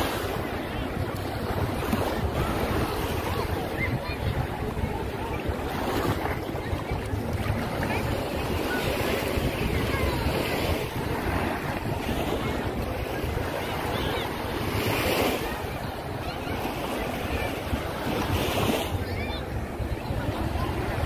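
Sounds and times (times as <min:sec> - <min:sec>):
faint voices of beach crowd: 0:00.0 - 0:21.0
small waves lapping on shore: 0:00.0 - 0:21.0
wind buffeting microphone: 0:00.0 - 0:21.0.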